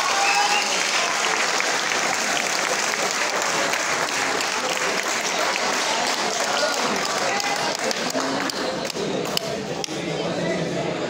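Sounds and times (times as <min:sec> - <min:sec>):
audience applauding: 0:00.0 - 0:09.5
scattered crowd voices: 0:00.0 - 0:11.0.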